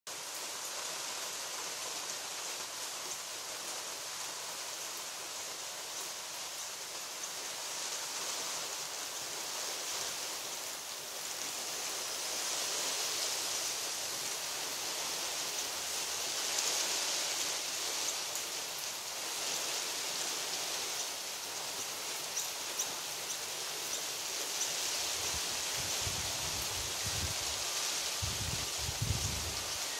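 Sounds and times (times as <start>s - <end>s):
outdoor background hiss: 0.1s - 29.9s.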